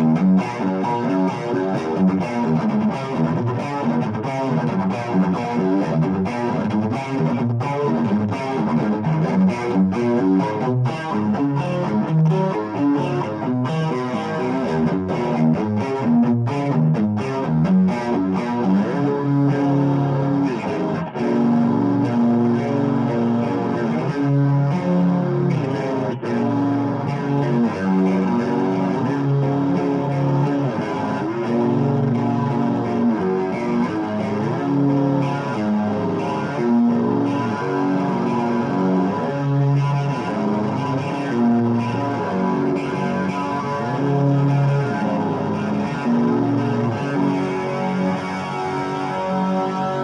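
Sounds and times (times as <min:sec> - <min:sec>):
overdriven electric guitar: 0:00.0 - 0:50.0.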